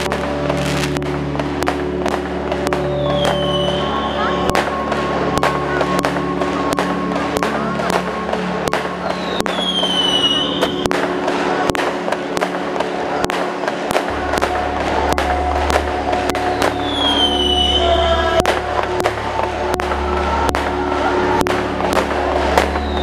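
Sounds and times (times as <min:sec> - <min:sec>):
fireworks bangs and crackles: 0:00.0 - 0:23.0
steady music: 0:00.0 - 0:23.0.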